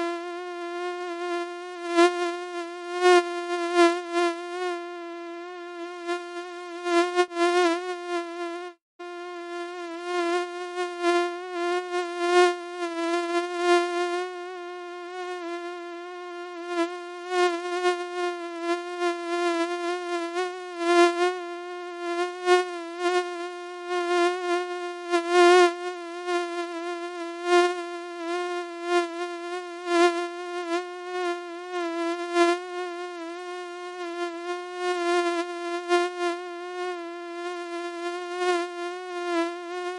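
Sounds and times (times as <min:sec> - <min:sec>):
mosquito wing whine: 0:00.0 - 0:39.9.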